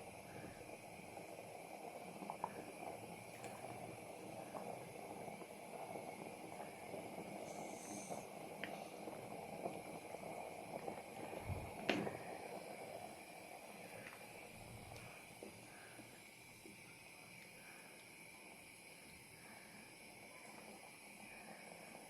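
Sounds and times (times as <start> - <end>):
stew simmering with bubbling: 0.0 - 22.0.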